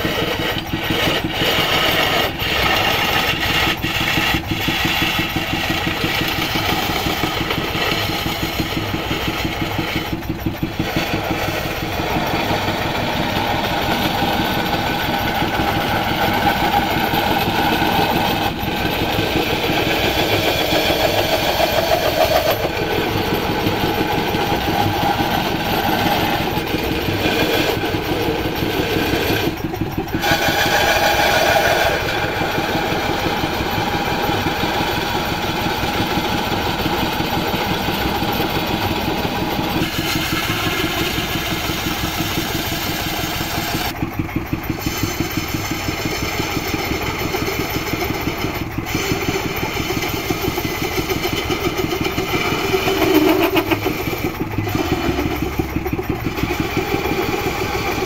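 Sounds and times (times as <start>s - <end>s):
hiss of wood being turned: 0.0s - 58.0s
wood lathe throbbing: 0.0s - 58.0s.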